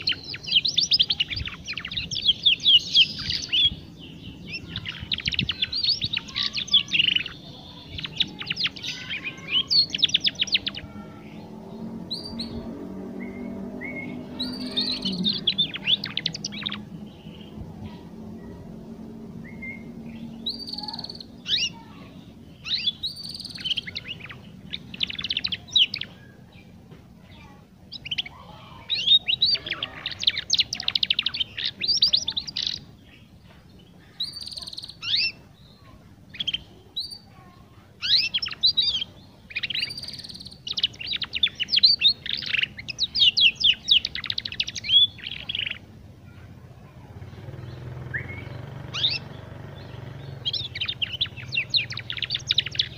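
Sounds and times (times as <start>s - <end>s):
canary twittering: 0.0s - 33.3s, 33.9s - 46.4s, 47.1s - 52.9s.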